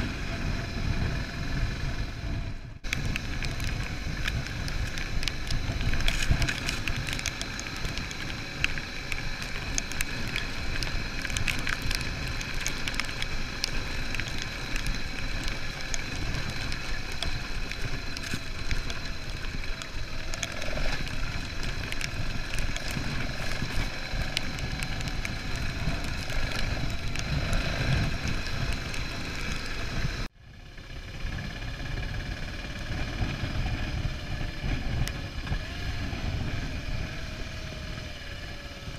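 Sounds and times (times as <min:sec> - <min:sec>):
grit ticking under tyres: 0:00.0 - 0:38.9
motorcycle engine running: 0:00.0 - 0:38.9.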